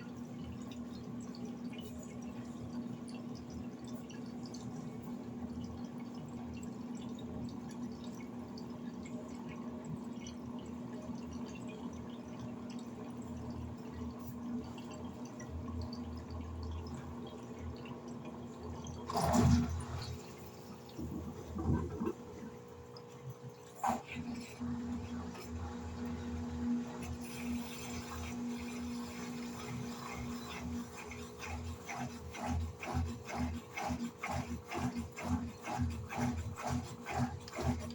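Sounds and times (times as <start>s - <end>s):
washing machine hum: 0.0s - 37.9s
water moving in washing machine: 0.0s - 37.9s.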